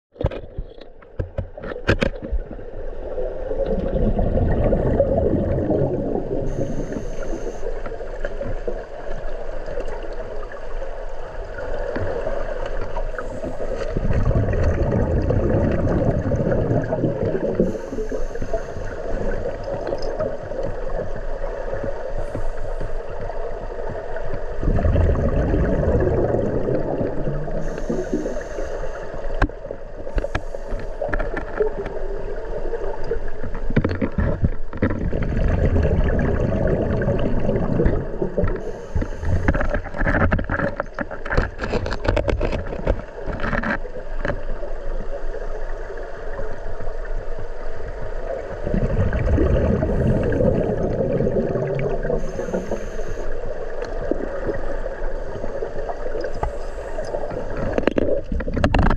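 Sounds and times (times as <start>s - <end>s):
clicks and knocks underwater: 0.1s - 45.7s, 47.8s - 58.9s
muffled underwater water rumble: 0.1s - 58.9s.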